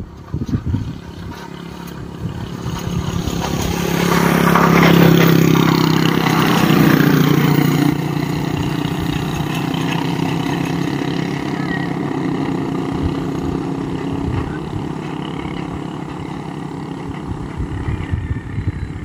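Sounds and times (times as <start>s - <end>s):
motorcycle engines passing: 0.0s - 19.0s.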